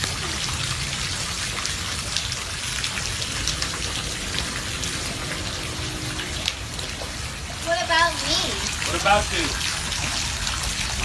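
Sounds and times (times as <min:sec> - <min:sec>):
raindrops ticking: 0:00.0 - 0:11.0
steady rain hiss: 0:00.0 - 0:11.0.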